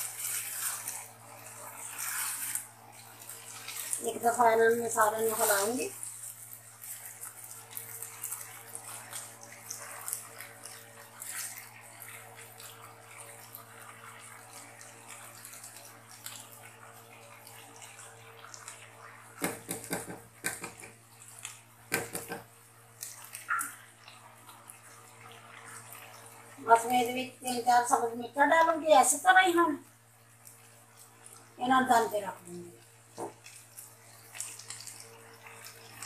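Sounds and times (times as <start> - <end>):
faint sizzle: 0.0 - 36.0.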